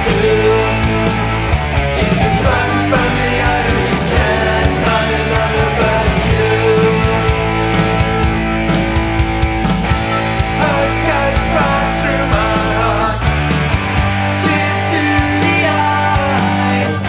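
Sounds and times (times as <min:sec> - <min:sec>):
bass: 0:00.0 - 0:17.0
distorted electric guitars: 0:00.0 - 0:17.0
drums: 0:00.0 - 0:17.0.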